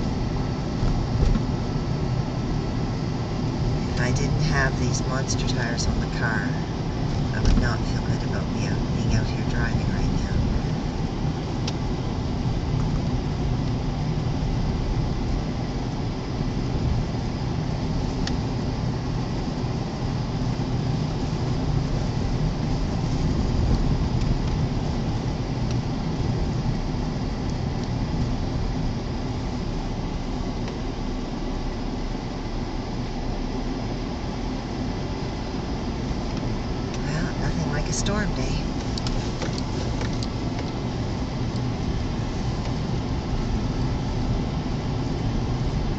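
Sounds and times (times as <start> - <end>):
car engine and tyres rumble: 0.0 - 45.9
gusting blizzard wind: 0.0 - 45.9.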